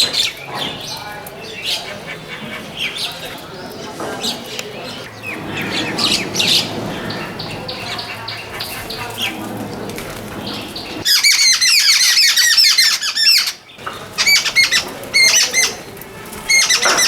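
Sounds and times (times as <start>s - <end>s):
wild birds chirping: 0.0s - 17.0s.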